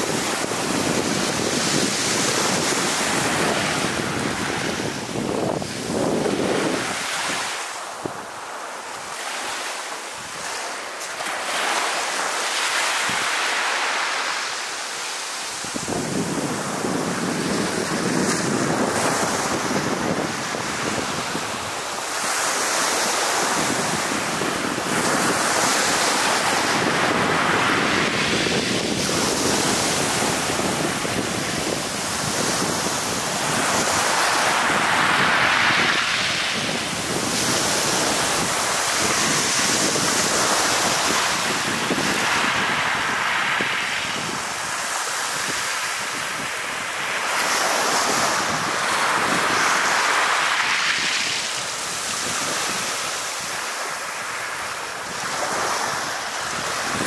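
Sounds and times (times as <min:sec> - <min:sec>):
waves washing over pebbles: 0:00.0 - 0:57.0.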